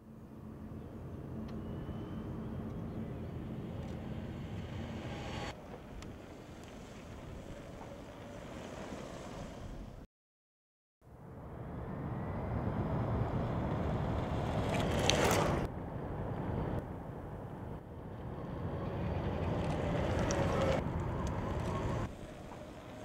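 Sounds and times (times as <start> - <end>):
wind and tyre noise: 0.0 - 10.1, 11.0 - 23.0.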